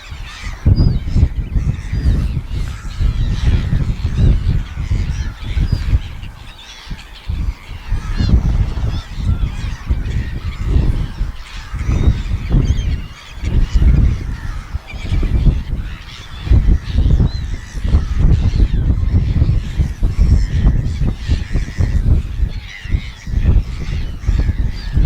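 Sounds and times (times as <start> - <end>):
low rumble in gusts: 0.0 - 25.0
seagulls calling: 0.0 - 25.0.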